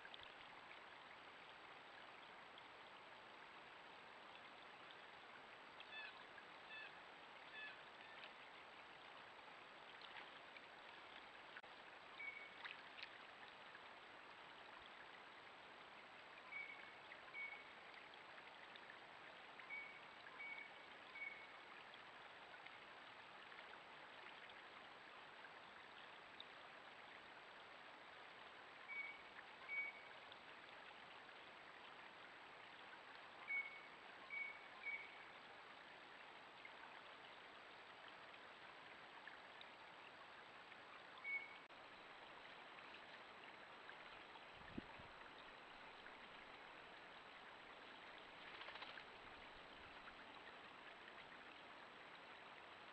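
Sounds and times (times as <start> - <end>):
water trickling: 0.0 - 52.9.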